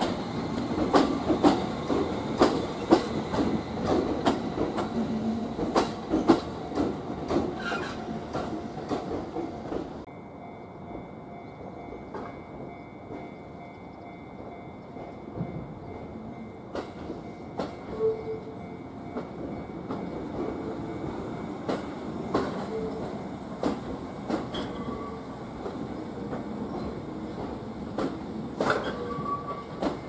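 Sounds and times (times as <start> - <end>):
wheels clacking over rail joints: 0.0 - 10.1, 14.4 - 30.0
train rumble: 0.0 - 30.0.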